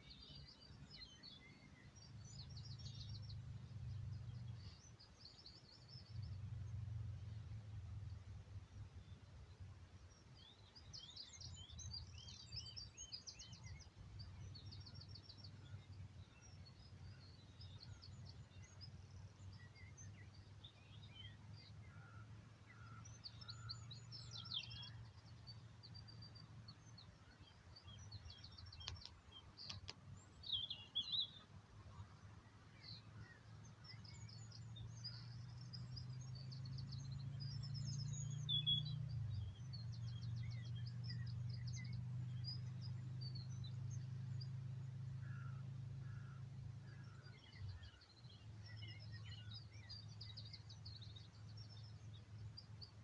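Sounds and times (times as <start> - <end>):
small birds singing and chirping: 0.0 - 53.0.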